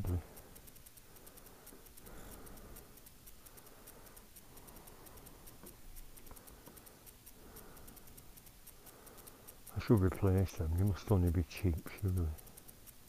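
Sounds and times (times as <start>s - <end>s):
faint rapid high-pitched ticking: 0.0s - 13.0s.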